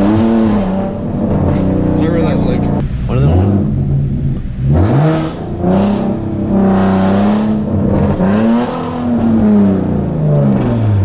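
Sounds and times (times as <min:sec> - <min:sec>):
car engine exhaust: 0:00.0 - 0:11.0.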